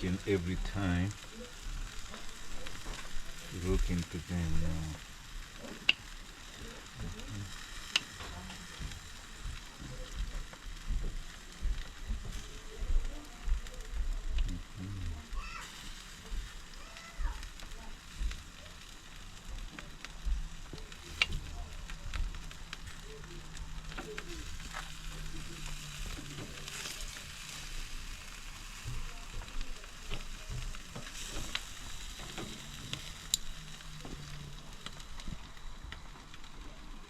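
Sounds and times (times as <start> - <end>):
chicken sizzling on barbecue: 0.0 - 37.0
fire pops and crackles: 0.0 - 37.0.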